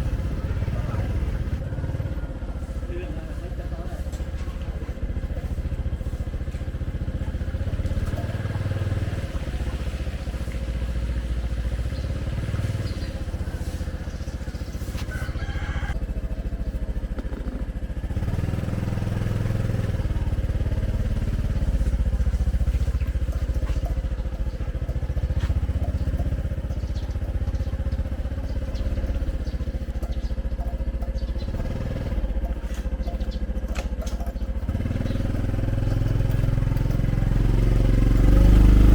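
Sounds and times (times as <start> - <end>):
motorcycle traffic rumbling: 0.0 - 38.9.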